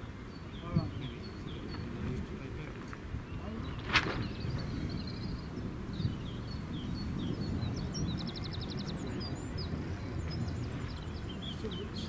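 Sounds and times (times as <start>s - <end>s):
small birds chirping and trilling: 0.0s - 12.0s
steady low rumble: 0.0s - 12.0s.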